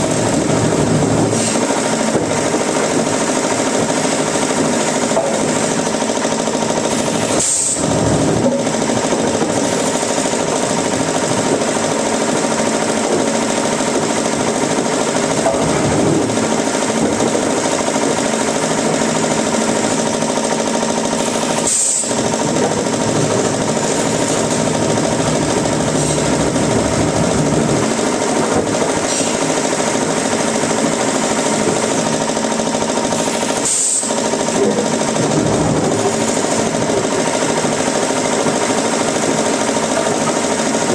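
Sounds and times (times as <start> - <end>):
woodworking machinery clattering: 0.0 - 40.9.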